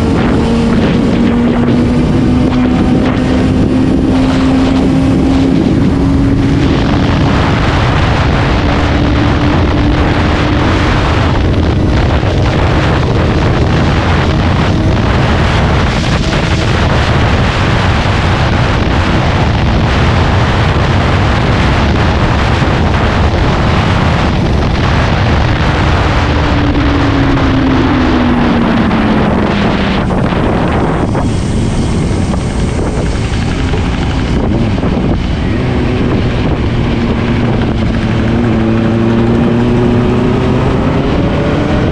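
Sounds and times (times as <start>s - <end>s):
motorcycle engine cruising: 0.0s - 41.9s
wind buffeting on microphone: 0.0s - 41.9s.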